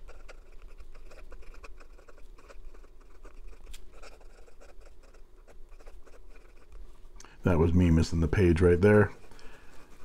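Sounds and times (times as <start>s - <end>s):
fountain pen scratching on paper: 0.0s - 6.9s, 8.5s - 10.0s.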